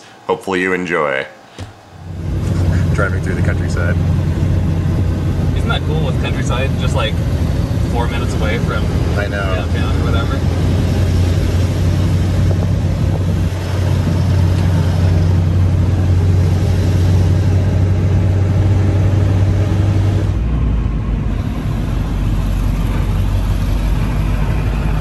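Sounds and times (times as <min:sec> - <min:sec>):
rushing air: 0:01.4 - 0:25.0
car engine and road drone: 0:01.7 - 0:25.0.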